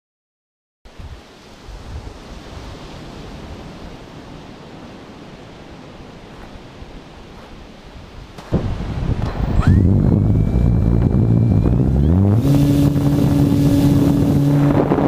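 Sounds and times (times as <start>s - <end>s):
wind rumble on microphone: 0.9s - 15.0s.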